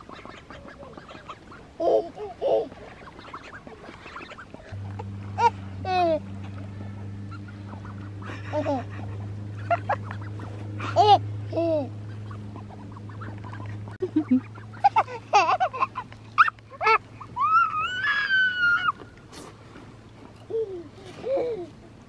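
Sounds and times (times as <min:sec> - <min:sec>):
ducks quacking: 0:00.0 - 0:17.9.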